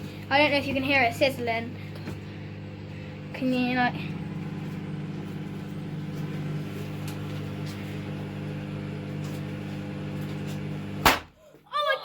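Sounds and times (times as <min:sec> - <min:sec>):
microwave oven humming: 0:00.0 - 0:11.3.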